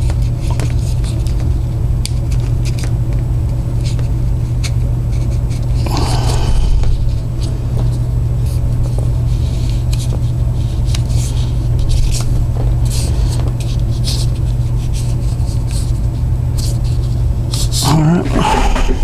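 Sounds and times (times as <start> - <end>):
steady low hum: 0.9 - 19.0.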